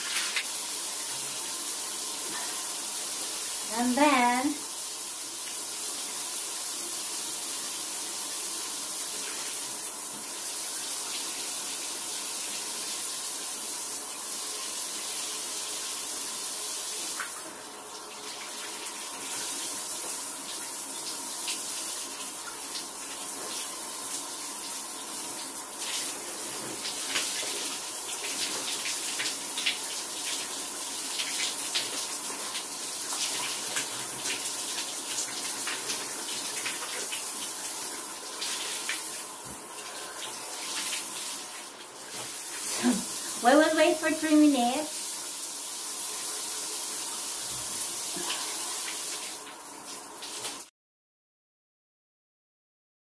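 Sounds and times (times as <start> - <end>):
shower spray running: 0.0 - 50.7.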